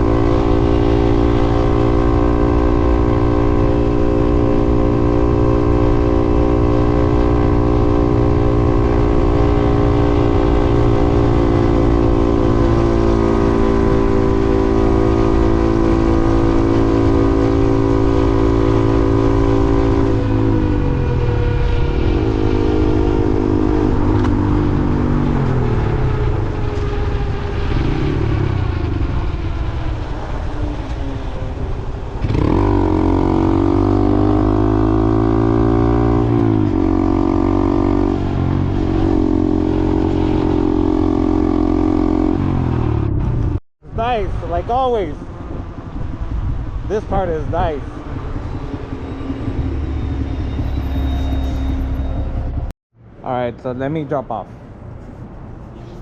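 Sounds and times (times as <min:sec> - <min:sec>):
wind rumble on microphone: 0:00.0 - 0:52.7.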